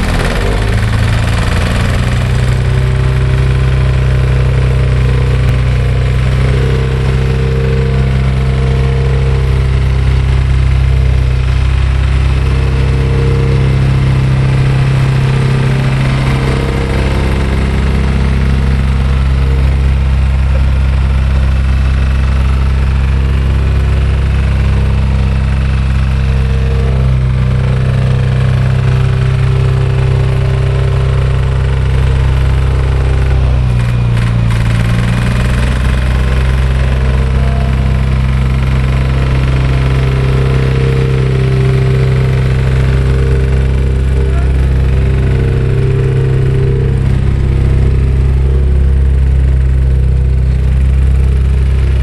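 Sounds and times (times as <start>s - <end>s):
plate compactor engine running: 0.0s - 52.0s.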